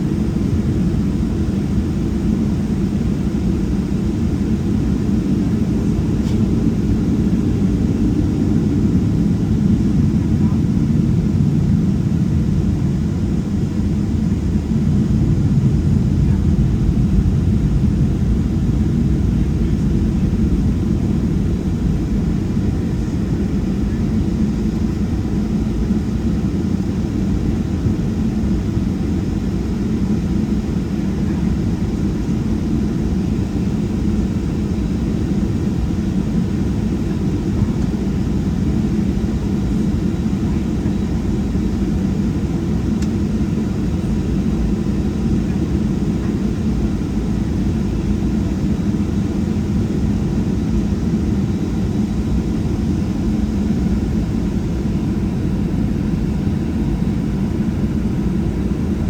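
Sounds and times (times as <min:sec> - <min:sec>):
airplane cabin rumble while taxiing: 0:00.0 - 0:59.0.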